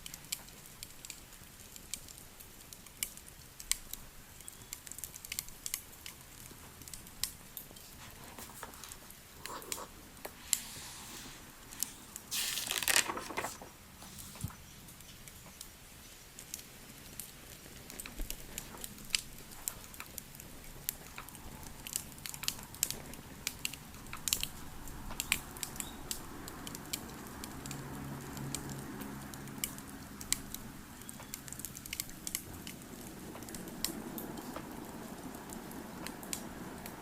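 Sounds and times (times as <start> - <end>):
wood fire crackling and popping: 0.0 - 10.6, 14.9 - 37.0.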